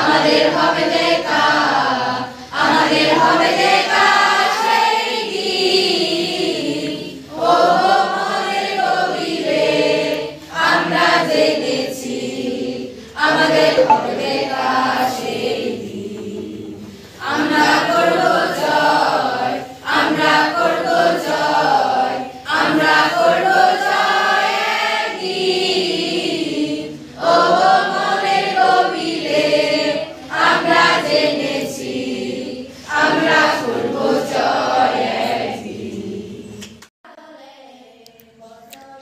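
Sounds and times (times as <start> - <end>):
group of voices singing: 0.0 - 39.0.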